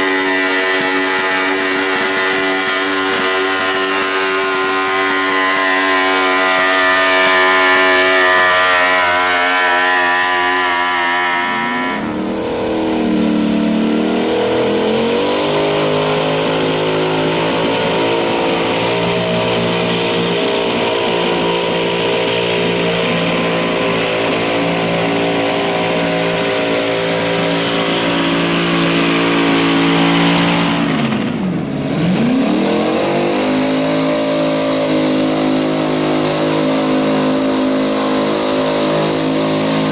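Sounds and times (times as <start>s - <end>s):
tractor engine running at high revs: 0.0s - 39.9s.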